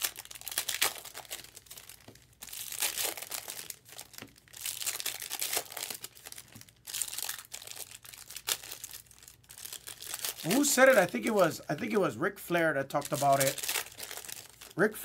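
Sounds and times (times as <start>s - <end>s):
foil wrappers crinkling: 0.0s - 12.0s, 12.9s - 15.0s.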